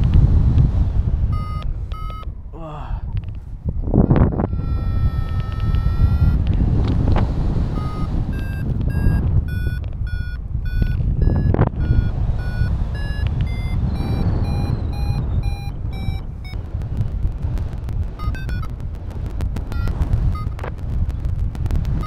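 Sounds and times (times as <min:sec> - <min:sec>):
wind rushing over microphone: 0:00.0 - 0:22.0
variometer beeping: 0:01.3 - 0:02.4, 0:03.9 - 0:22.0.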